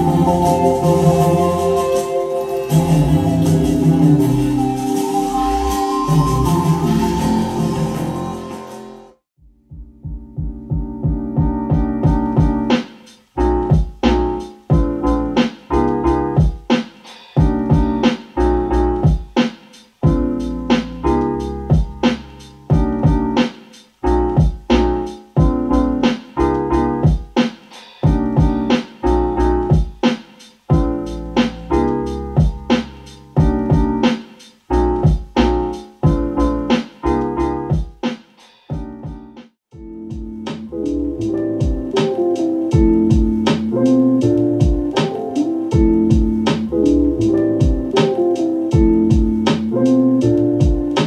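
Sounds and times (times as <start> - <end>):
deep bass: 0.0 - 8.6, 9.6 - 12.7, 13.4 - 16.5, 17.4 - 19.2, 20.0 - 23.4, 24.0 - 27.2, 28.1 - 29.8, 30.7 - 34.0, 34.7 - 37.8, 39.8 - 45.0, 45.7 - 48.0, 48.7 - 51.0
piano-like keyboard chords: 0.0 - 9.2, 10.0 - 16.8, 17.4 - 19.4, 20.0 - 27.4, 28.0 - 30.0, 30.7 - 37.9, 38.8 - 51.0.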